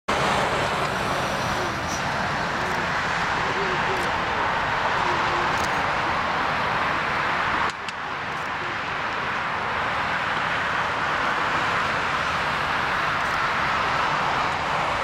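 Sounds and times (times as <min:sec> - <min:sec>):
jet engines at taxi power: 0:00.1 - 0:15.0.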